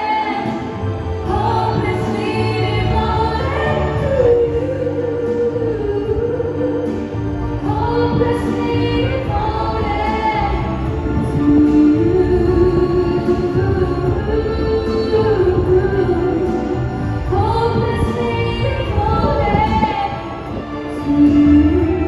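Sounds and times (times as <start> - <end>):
backing music: 0.0 - 22.0
woman singing into a microphone: 0.0 - 22.0.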